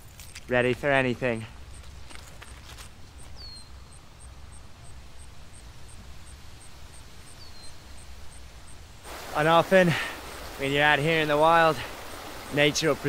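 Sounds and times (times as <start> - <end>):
low wind rumble: 0.9 - 13.0.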